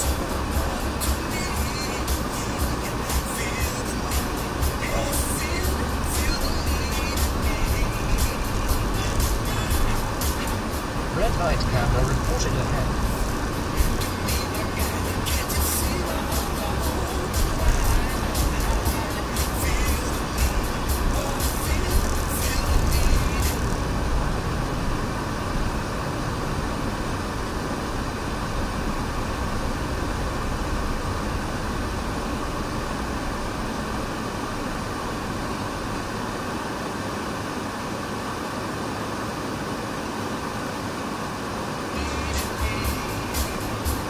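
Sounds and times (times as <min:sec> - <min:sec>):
car cabin noise: 0:00.0 - 0:44.0.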